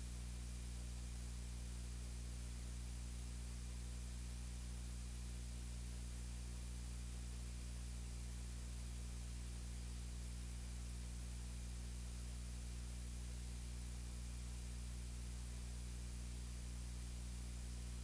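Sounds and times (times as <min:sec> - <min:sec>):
low electrical hum with hiss: 0:00.0 - 0:18.0.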